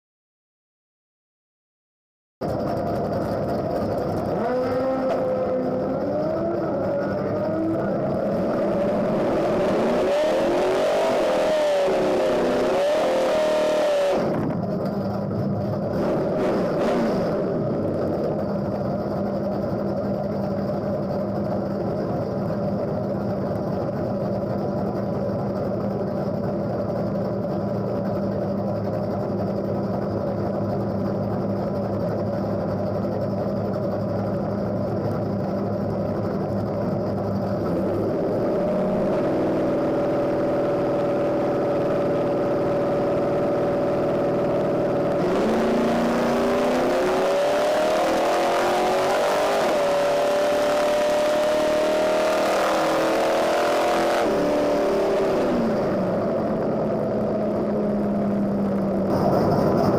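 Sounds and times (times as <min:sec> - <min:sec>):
car engine idling and revving: 0:02.4 - 0:59.9.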